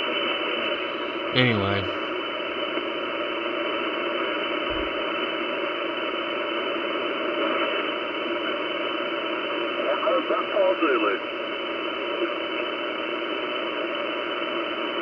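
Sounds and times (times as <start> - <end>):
radio band noise hiss: 0.0 - 3.0, 4.1 - 15.0.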